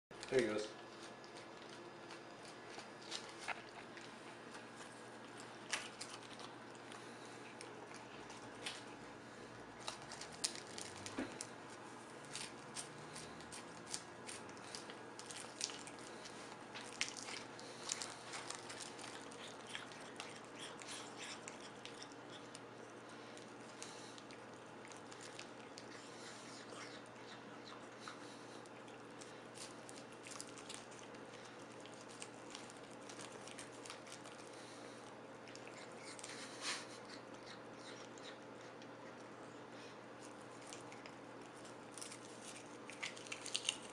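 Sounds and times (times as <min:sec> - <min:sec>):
cat chewing with crunches: 0:00.2 - 0:43.9.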